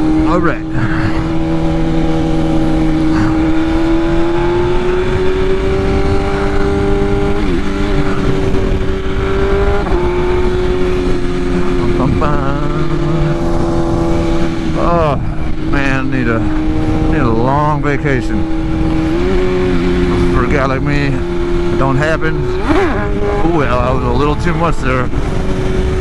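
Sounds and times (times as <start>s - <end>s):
motorcycle engine revving high: 0.0s - 26.0s.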